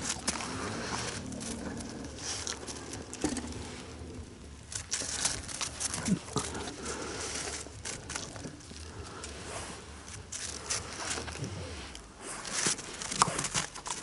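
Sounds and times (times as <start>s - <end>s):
dogs rustling and pattering: 0.0s - 14.0s.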